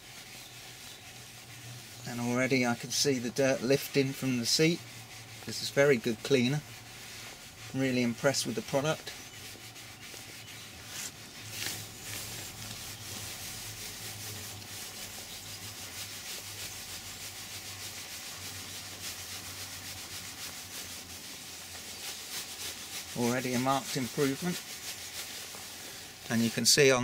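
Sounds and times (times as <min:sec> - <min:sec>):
sponge scrubbing leather seat: 0:00.0 - 0:27.0.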